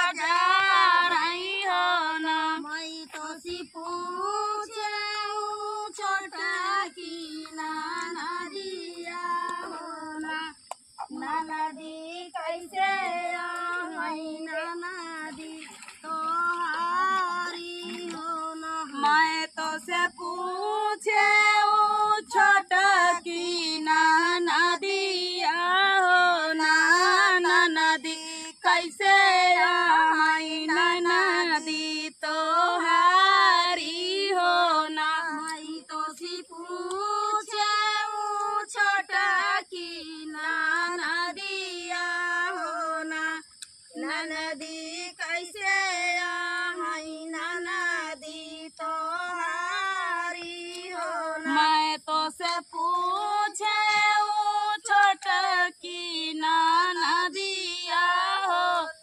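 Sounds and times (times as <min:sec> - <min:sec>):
women singing folk song: 0:00.0 - 0:59.0.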